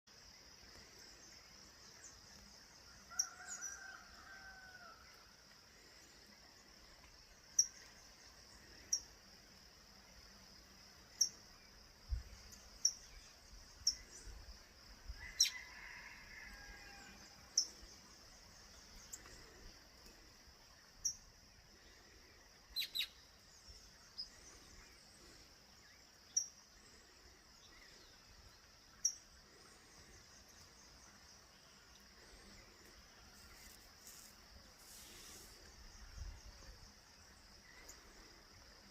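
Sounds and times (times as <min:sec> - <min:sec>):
high-pitched insect trill: 0:01.0 - 0:38.9.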